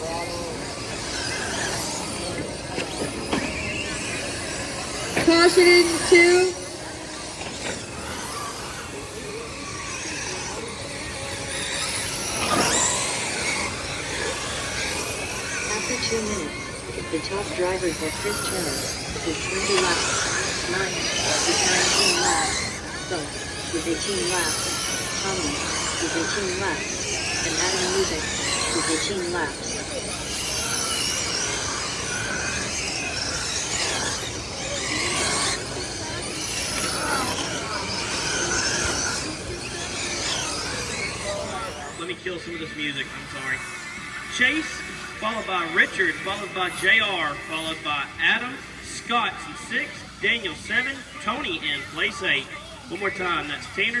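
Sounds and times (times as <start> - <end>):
electric rc car motors whining: 0.0 - 54.0
steady background noise: 0.0 - 54.0.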